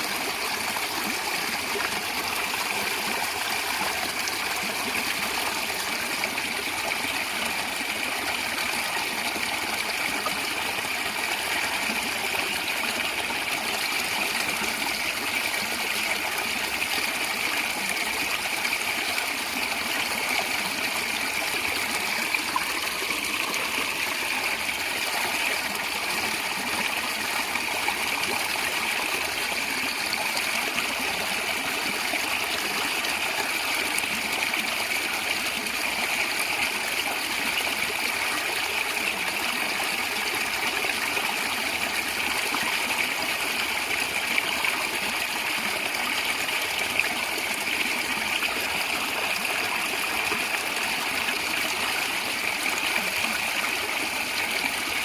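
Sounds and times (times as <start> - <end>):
stream water gurgling over stones: 0.0 - 55.0.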